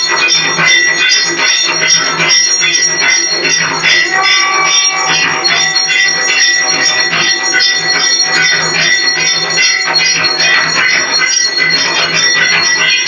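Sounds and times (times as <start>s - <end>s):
rapid clatter of strikes: 0.0s - 13.0s
temple bells ringing: 0.0s - 13.0s.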